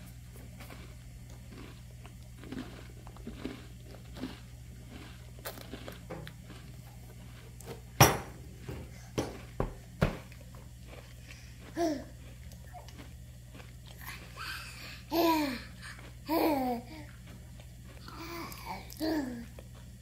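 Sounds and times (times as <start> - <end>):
baby chewing softly: 0.0 - 8.0, 8.8 - 20.0.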